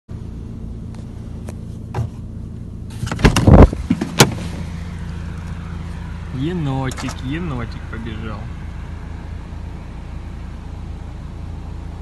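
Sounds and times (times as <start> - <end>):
low mechanical hum: 0.1 - 12.0.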